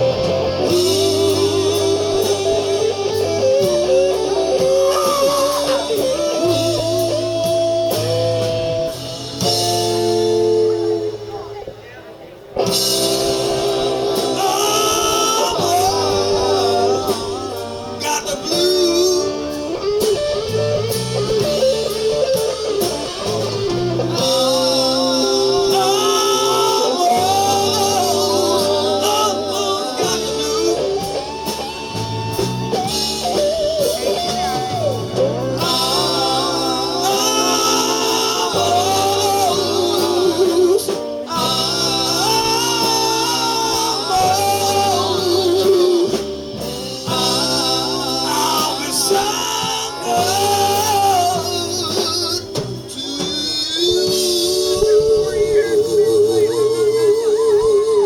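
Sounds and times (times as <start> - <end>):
blues-rock band playing: 0.0 - 58.0
melodic lead guitar: 0.0 - 58.0.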